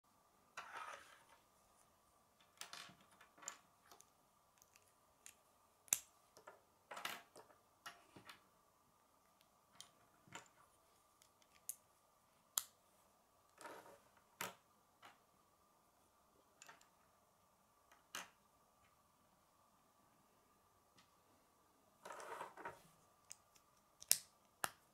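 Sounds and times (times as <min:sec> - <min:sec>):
faint high hum: 0:00.1 - 0:24.9.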